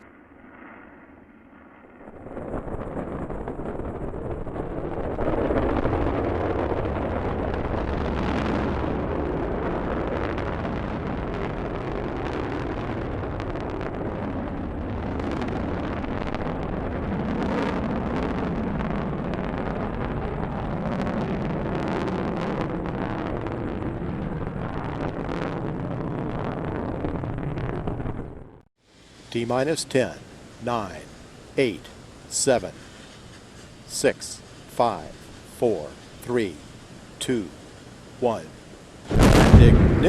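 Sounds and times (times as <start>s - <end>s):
rocket engine rumble: 0.0s - 40.0s.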